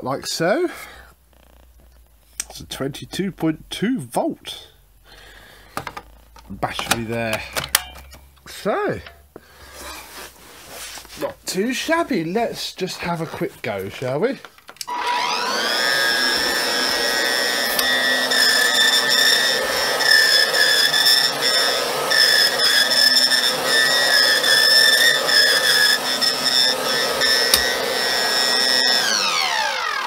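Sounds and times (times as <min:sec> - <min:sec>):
stick vacuum whining: 0:05.1 - 0:12.1, 0:12.8 - 0:30.0.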